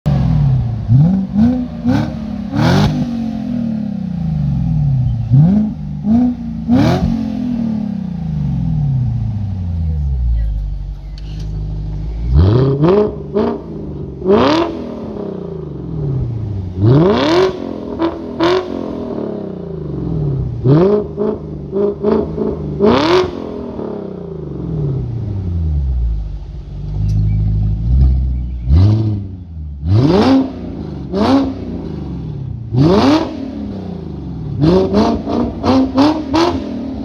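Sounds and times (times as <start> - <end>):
car engine revving: 0.1 - 37.0.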